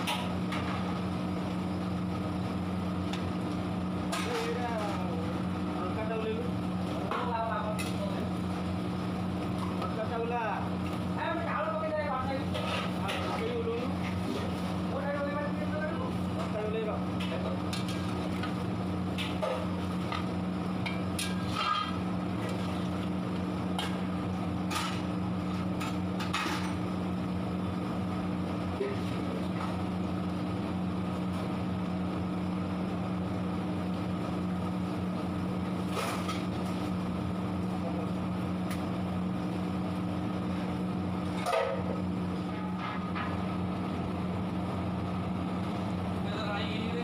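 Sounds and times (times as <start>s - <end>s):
kitchen machinery humming: 0.0s - 47.0s.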